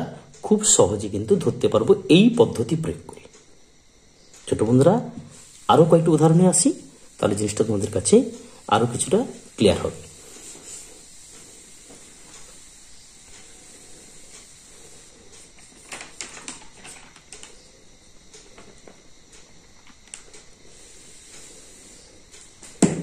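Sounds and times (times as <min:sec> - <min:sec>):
faint hiss: 0:00.0 - 0:23.0.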